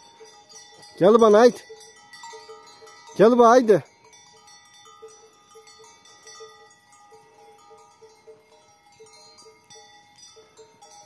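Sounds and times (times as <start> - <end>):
soft chime-like music: 0.0 - 11.0.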